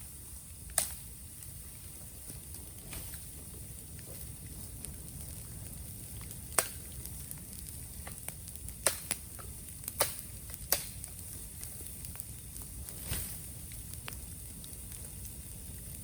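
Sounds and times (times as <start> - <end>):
bamboo bonfire crackling: 0.0 - 16.0.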